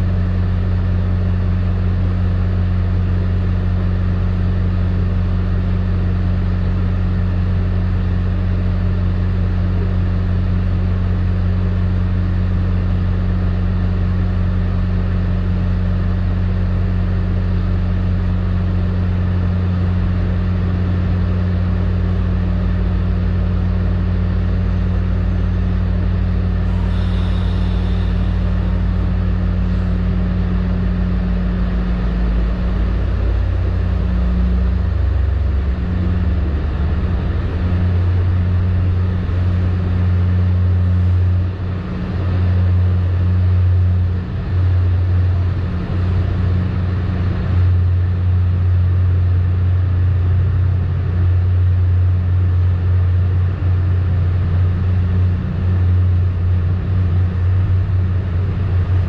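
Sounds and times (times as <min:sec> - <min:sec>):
train coach rumble and hum: 0:00.0 - 0:59.0.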